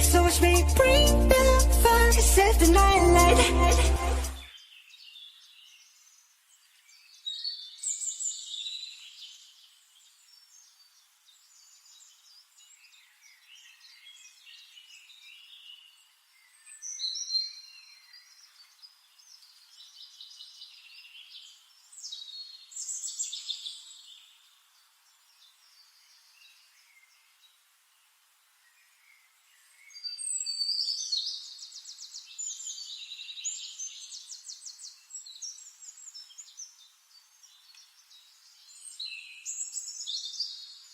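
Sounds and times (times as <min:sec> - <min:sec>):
songbirds chirping and trilling: 0:04.2 - 0:40.9.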